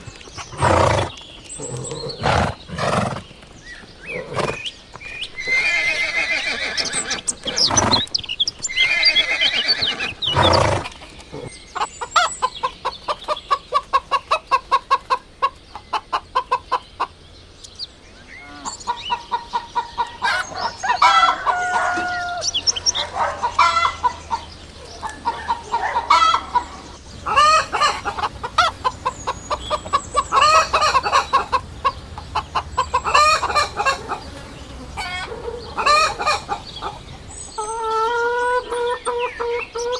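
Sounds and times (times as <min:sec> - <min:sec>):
chickens clucking and cackling: 0:00.0 - 0:39.9.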